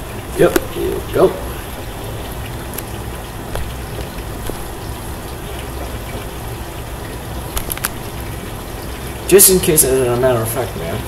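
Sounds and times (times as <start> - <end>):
low rumble of gas burner: 0.0 - 11.0.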